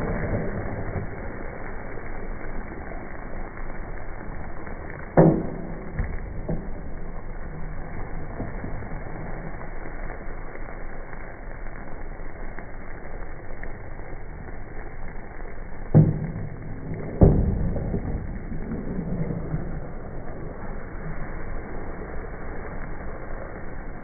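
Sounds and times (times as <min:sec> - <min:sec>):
food sizzling in a pot: 0:00.0 - 0:24.0.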